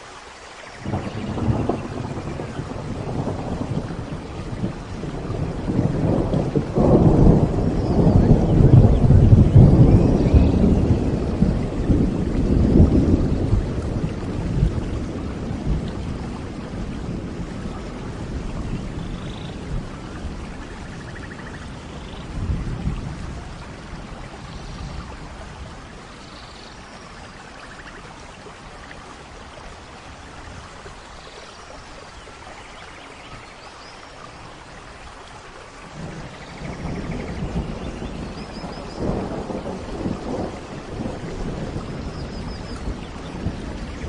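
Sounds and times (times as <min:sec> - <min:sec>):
steady rain falling: 0:00.0 - 0:44.0
low rolling thunder: 0:00.8 - 0:31.0, 0:35.8 - 0:44.0.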